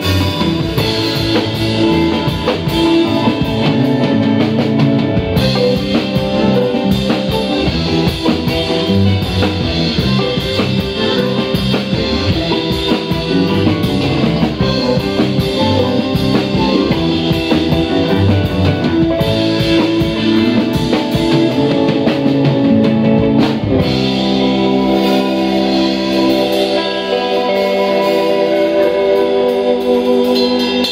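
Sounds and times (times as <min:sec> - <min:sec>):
bass guitar: 0:00.0 - 0:30.9
drum kit beat: 0:00.0 - 0:30.9
electric guitar: 0:00.0 - 0:30.9.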